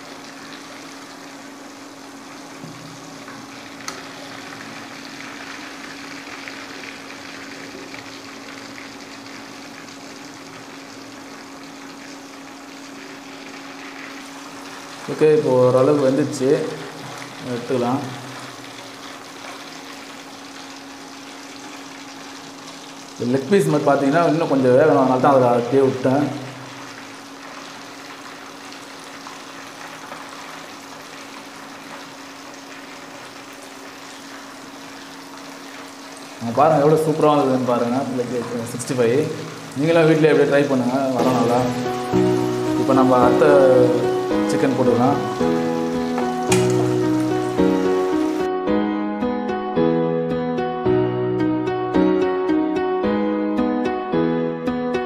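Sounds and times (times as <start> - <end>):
sizzling and bubbling in hot oil: 0.0 - 48.5.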